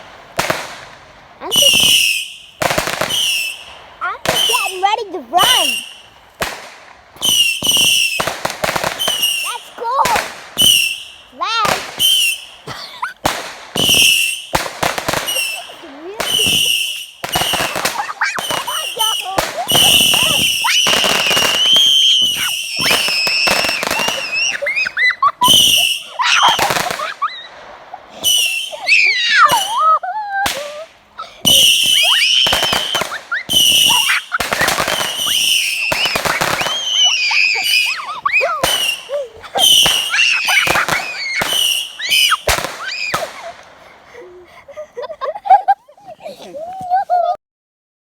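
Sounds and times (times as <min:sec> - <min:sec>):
fireworks whistling: 0:00.0 - 0:44.1
fireworks bangs and crackles: 0:00.0 - 0:44.4.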